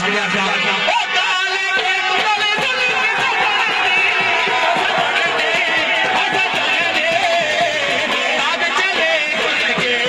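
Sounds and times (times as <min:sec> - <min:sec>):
man chanting folk verse: 0:00.0 - 0:10.0
quick steady beat: 0:00.0 - 0:10.0.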